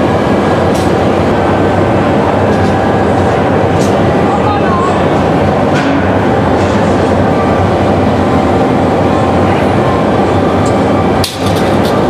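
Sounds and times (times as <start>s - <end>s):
constant hum: 0.0s - 12.0s
industrial roar: 0.0s - 12.0s.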